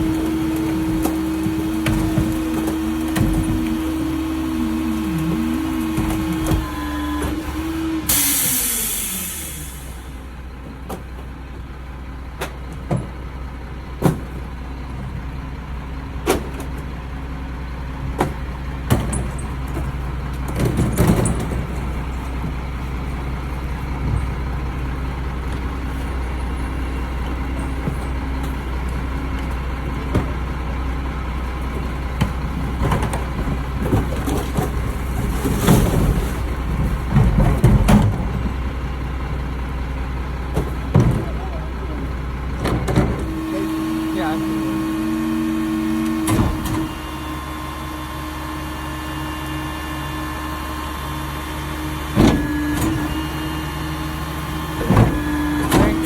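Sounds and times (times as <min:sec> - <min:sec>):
garbage truck running: 0:00.0 - 0:56.0.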